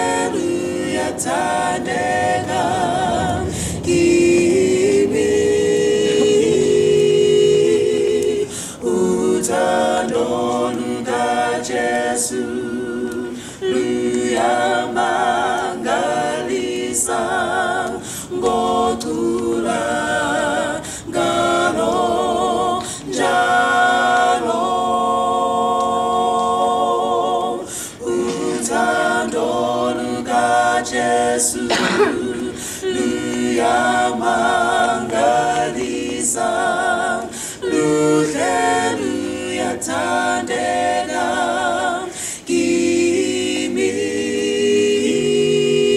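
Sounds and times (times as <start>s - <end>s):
vocal quartet singing a hymn: 0.0s - 45.9s.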